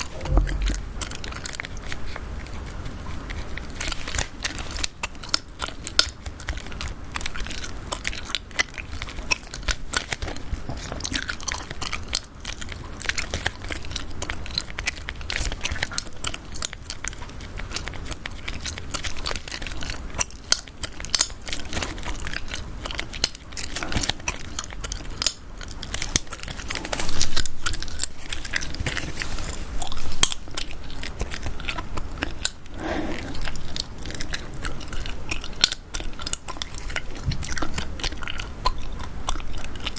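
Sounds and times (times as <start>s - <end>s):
gum chewing wet clicks: 0.0s - 28.7s, 29.8s - 39.9s.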